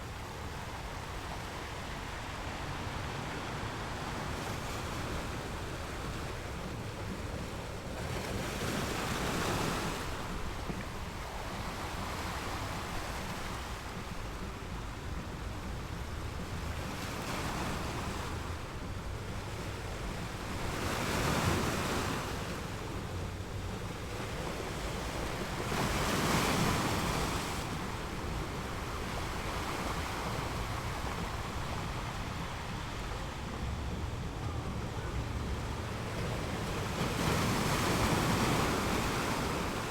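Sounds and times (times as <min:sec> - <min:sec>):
ocean waves breaking: 0:00.0 - 0:39.9
surf wash: 0:00.0 - 0:39.9.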